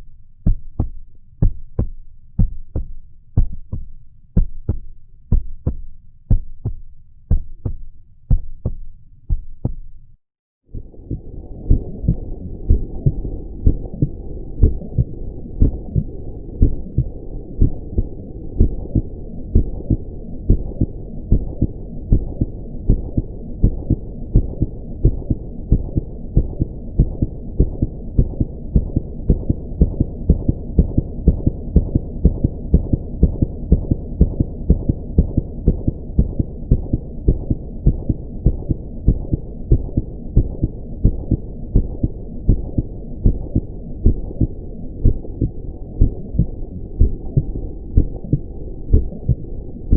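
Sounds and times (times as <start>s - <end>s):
heartbeat thumps: 0.0s - 10.0s, 10.8s - 49.9s
low hum: 0.0s - 49.9s.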